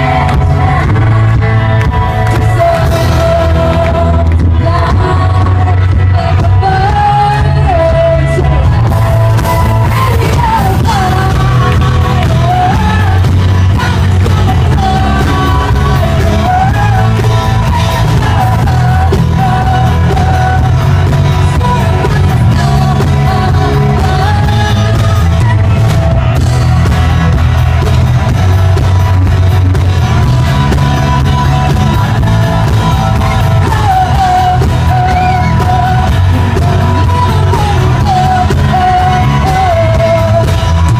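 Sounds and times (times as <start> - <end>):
live band playing: 0.0 - 40.9
person singing: 0.0 - 40.9.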